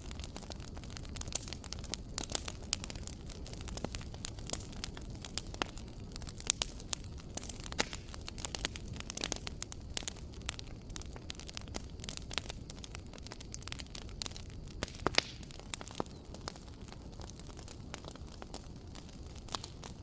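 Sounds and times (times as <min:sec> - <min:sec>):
fire pops and snaps: 0:00.0 - 0:20.0
low rumble of flames: 0:00.0 - 0:20.0.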